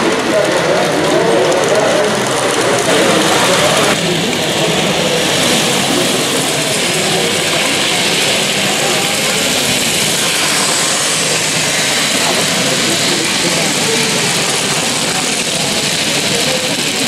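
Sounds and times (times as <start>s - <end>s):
model train rolling: 0.0s - 17.0s
murmur of voices: 0.0s - 17.0s.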